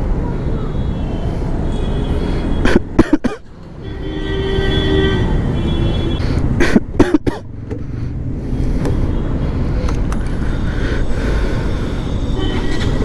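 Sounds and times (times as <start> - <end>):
wind and road rumble: 0.0 - 13.0.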